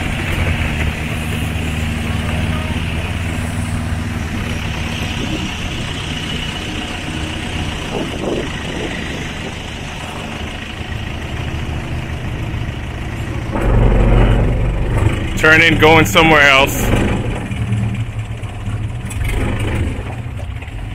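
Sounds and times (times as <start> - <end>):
boat motor running: 0.0 - 20.9
water rushing along hull: 0.0 - 20.9.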